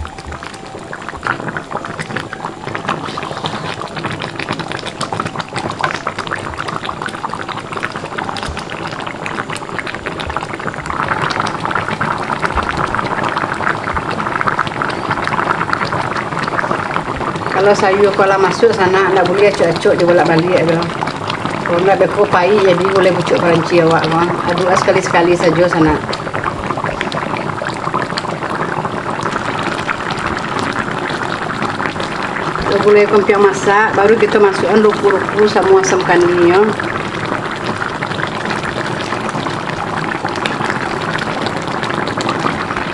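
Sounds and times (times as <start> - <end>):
curry boiling and bubbling: 0.0 - 42.9.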